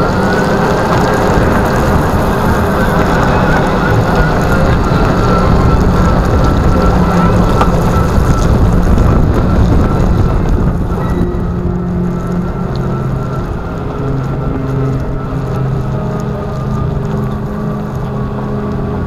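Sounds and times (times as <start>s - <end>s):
motor hum: 0.0s - 19.0s
tyre rumbling on wet pavement: 0.0s - 19.0s
wind on microphones: 0.0s - 19.0s.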